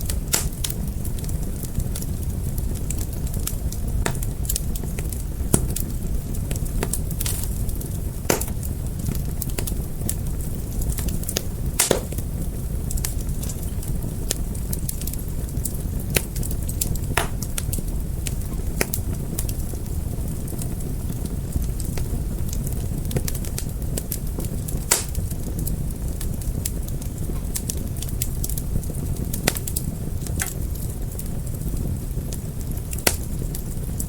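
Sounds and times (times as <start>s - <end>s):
low rush of flames: 0.0s - 34.0s
wood fire popping and snapping: 0.0s - 34.0s.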